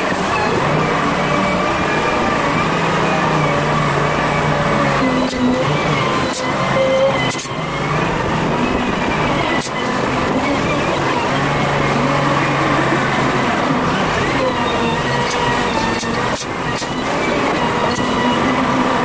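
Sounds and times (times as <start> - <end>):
wheel loader engine running: 0.0 - 19.0.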